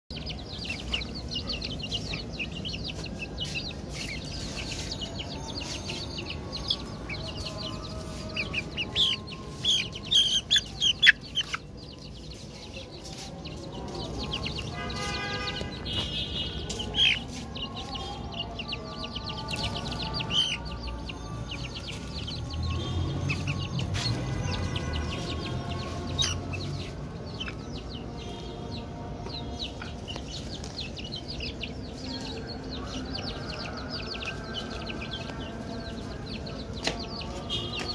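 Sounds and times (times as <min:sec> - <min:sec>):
chicks peeping: 0:00.1 - 0:37.9.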